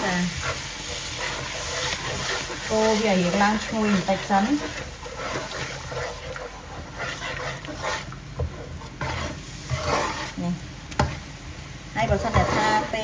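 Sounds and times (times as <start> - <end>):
spatula scraping a wok: 0.0 - 11.4, 12.0 - 13.0
sauce sizzling: 0.0 - 13.0.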